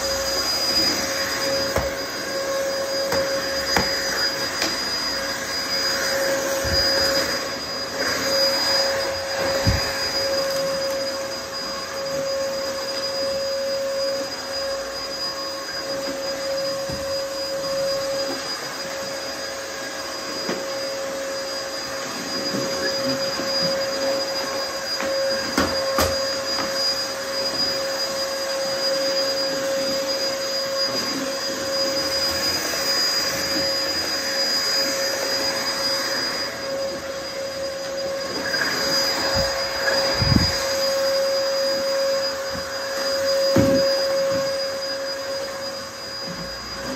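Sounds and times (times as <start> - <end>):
vacuum cleaner motor running: 0.0 - 46.9.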